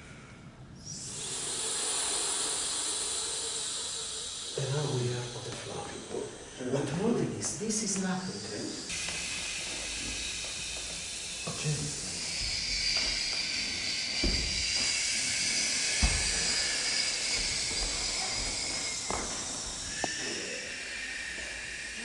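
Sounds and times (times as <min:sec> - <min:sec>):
wavering hiss: 0:00.0 - 0:22.0.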